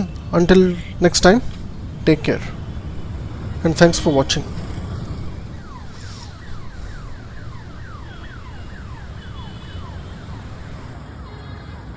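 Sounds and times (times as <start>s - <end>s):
road traffic rumble: 0.0s - 11.0s
electronic siren whooping: 0.4s - 11.0s.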